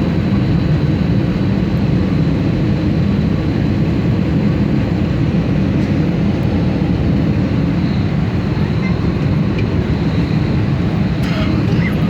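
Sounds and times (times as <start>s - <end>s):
airliner engine rumble: 0.0s - 12.0s.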